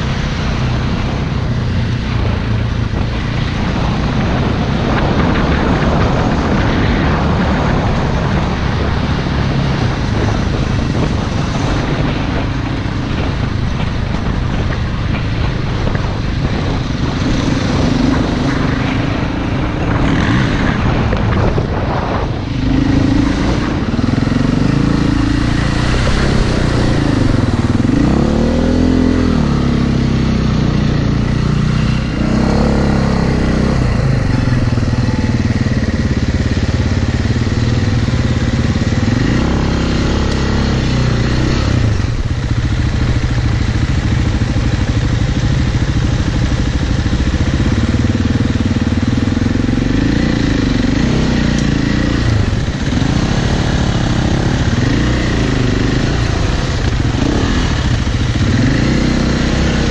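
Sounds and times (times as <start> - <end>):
motorcycle engine revving: 0.0 - 59.9
wind noise on microphone: 0.0 - 59.9.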